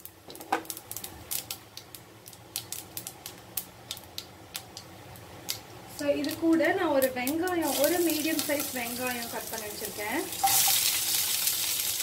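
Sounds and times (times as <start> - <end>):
seeds crackling in hot oil: 0.0 - 12.0.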